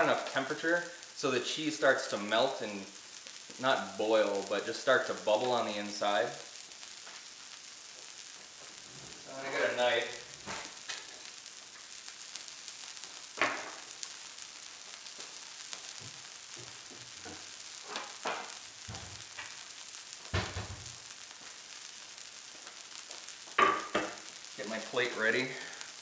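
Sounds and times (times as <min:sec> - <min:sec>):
food sizzling on a griddle: 0:00.0 - 0:26.0.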